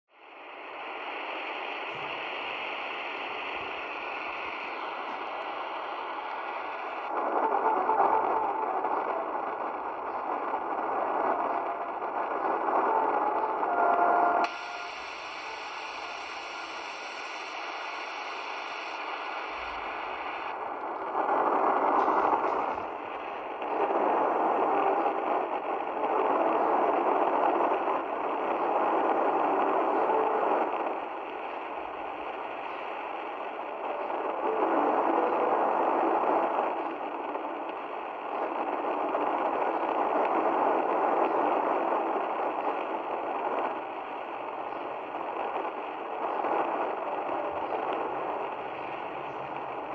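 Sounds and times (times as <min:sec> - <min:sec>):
radio hiss: 0:00.1 - 0:49.9
radio broadcast through small loudspeaker: 0:00.3 - 0:49.9.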